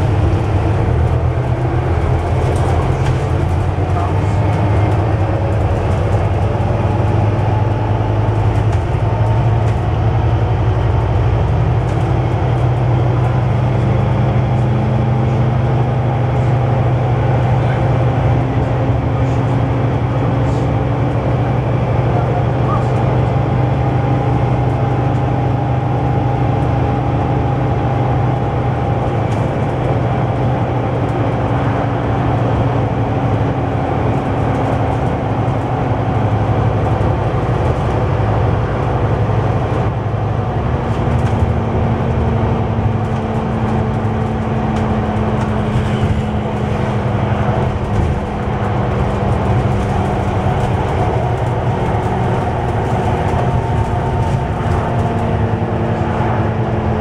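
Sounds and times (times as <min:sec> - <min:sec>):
diesel bus engine drone: 0:00.0 - 0:57.0
tyre and road rumble: 0:00.0 - 0:57.0.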